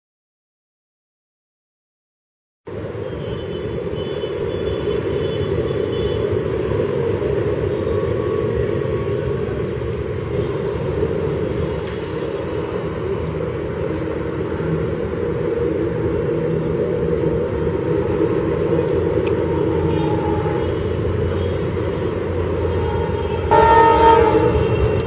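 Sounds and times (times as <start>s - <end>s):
diesel locomotive engines rumbling: 2.7s - 25.0s.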